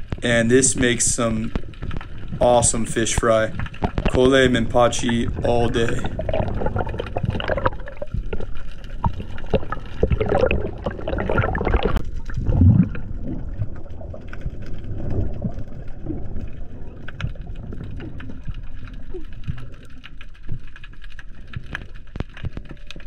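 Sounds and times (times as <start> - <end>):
small clicks and crackles: 0.0 - 23.0
underwater water gurgling: 0.0 - 23.0.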